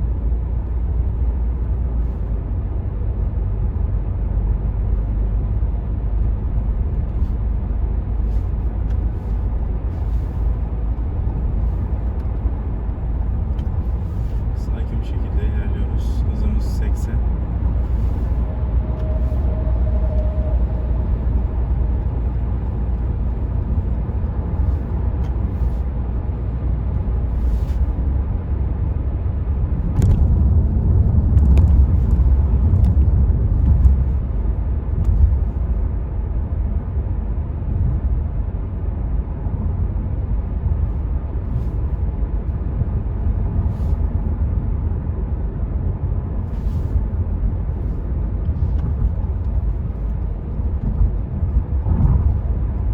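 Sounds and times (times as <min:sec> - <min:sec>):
car cabin road and tyre rumble: 0:00.0 - 0:52.9.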